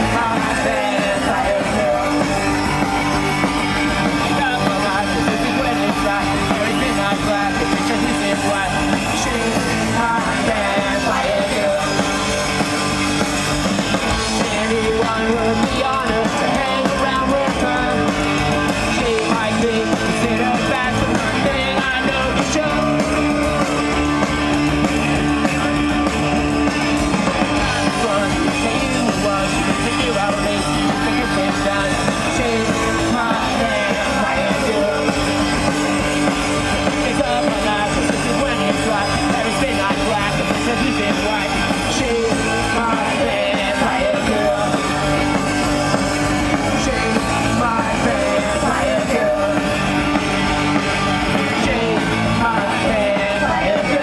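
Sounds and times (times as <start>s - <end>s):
person singing: 0.0s - 24.4s, 27.6s - 54.0s
punk rock band playing live: 0.0s - 54.0s.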